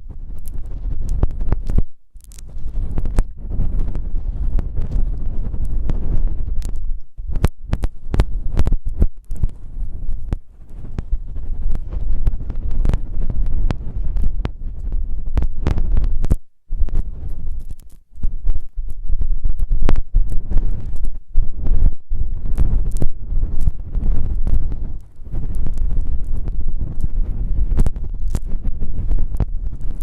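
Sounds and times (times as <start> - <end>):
rubbing on a microphone: 0.0 - 30.0.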